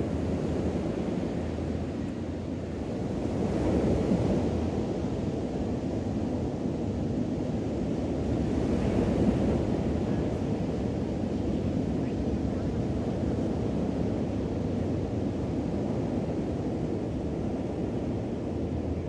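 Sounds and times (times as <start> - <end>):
ocean waves washing onto beach: 0.0 - 19.0
wind on microphone: 0.0 - 19.0.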